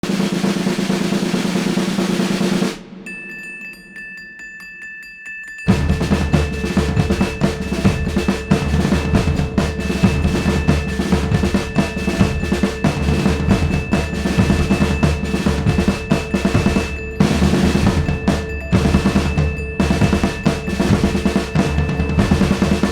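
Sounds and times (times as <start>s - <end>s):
fast continuous drumming: 0.0s - 22.9s.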